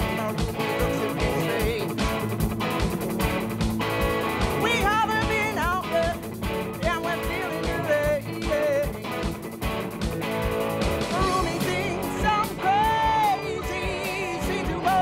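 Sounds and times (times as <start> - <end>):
bending lead melody line: 0.0 - 15.0
live rock band playing: 0.0 - 15.0.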